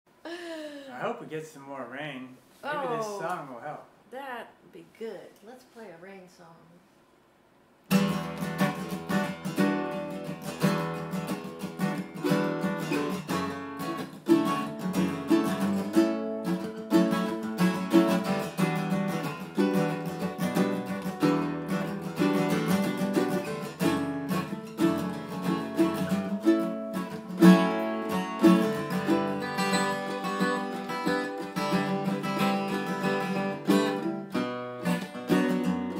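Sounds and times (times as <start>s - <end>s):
acoustic guitar and ukulele strumming: 2.6s - 3.5s, 7.9s - 35.9s.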